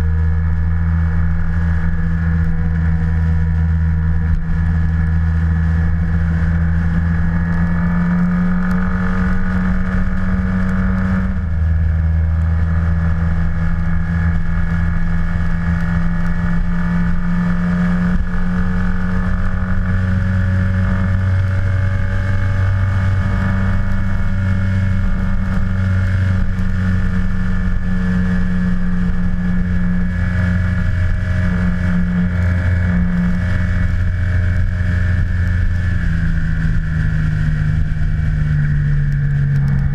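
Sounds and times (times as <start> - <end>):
scooter engine low drone: 0.0 - 39.9.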